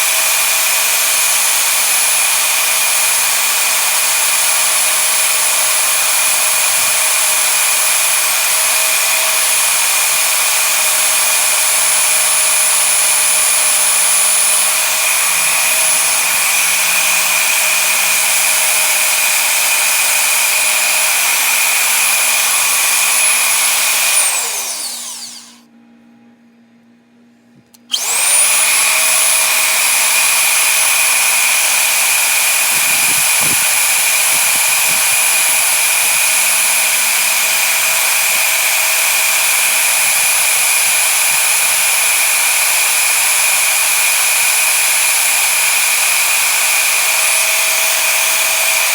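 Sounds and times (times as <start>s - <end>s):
power tool motor whine: 0.0s - 25.6s, 27.9s - 48.9s.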